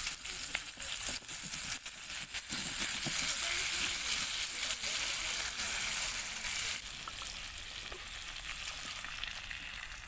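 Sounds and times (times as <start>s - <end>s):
food sizzling over campfire: 0.0s - 10.0s.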